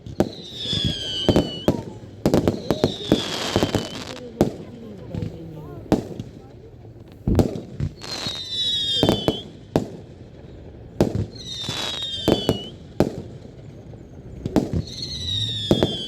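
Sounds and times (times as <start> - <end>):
fireworks bangs: 0.0 - 16.0
whistling fireworks: 0.0 - 16.0.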